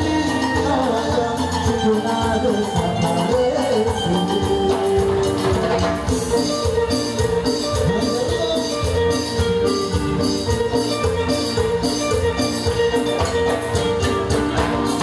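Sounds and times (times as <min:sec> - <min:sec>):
drum kit and percussion beat: 0:00.0 - 0:15.0
latin dance band playing: 0:00.0 - 0:15.0.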